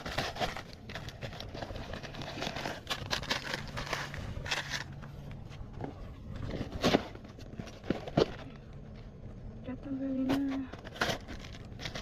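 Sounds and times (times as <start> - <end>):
cardboard and paper crinkling: 0.0 - 9.2, 10.0 - 12.0
faint low hum: 0.0 - 12.0.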